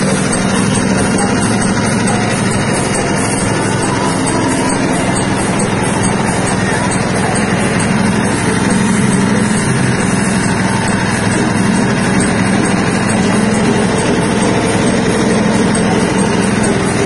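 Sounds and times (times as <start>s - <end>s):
bean dehulling machine drone: 0.0s - 17.0s.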